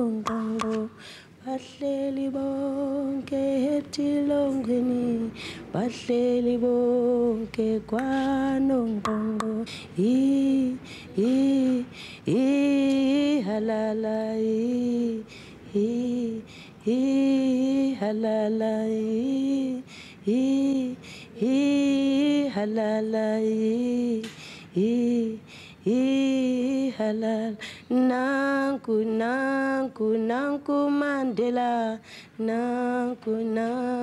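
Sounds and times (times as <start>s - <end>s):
woman singing unaccompanied: 0.0s - 34.0s.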